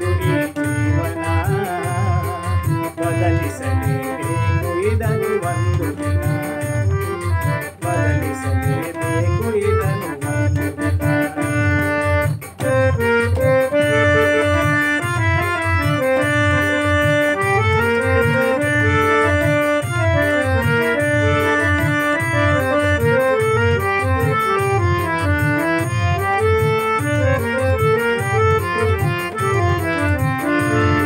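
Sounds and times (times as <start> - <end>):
organ-like keyboard melody: 0.0 - 31.0
steady low beat: 0.0 - 31.0.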